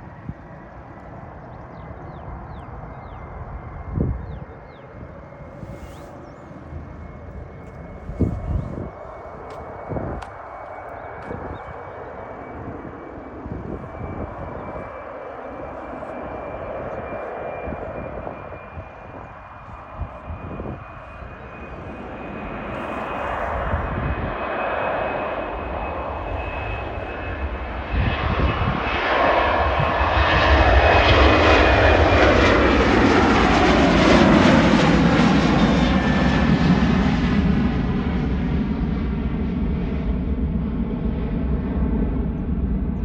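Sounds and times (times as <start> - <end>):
jet engines at takeoff: 0.0 - 43.0.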